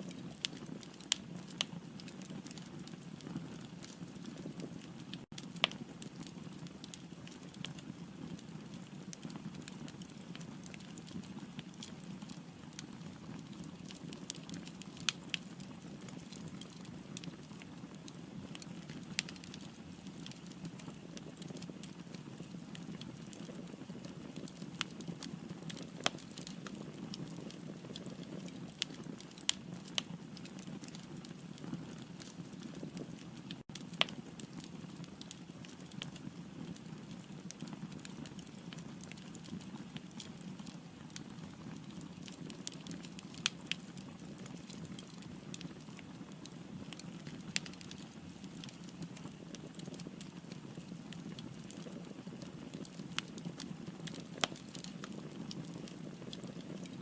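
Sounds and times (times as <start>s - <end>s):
firewood crackling and popping: 0.0s - 57.0s
low rumble of flame: 0.0s - 57.0s.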